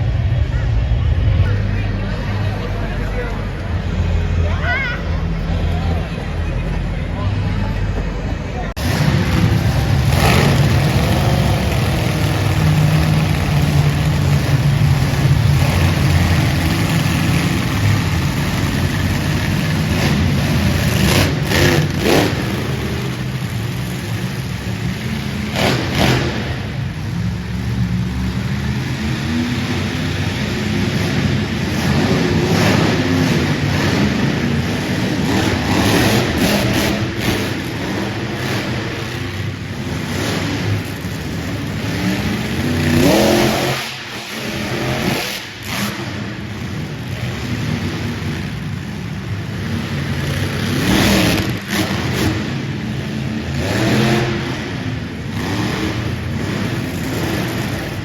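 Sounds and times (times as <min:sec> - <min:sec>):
monster truck engines revving: 0:00.0 - 0:58.0.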